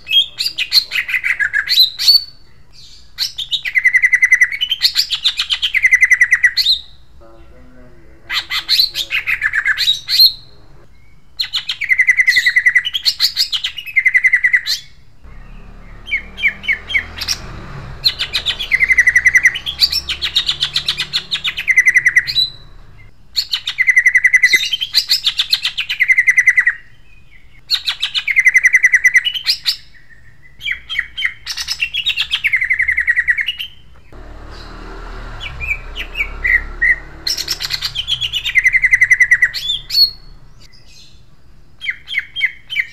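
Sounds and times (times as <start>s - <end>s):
bird singing rolling trills: 0.0s - 42.9s.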